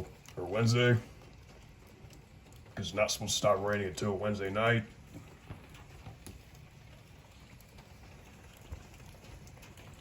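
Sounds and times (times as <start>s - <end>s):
faint rain with drop ticks: 0.0s - 10.0s.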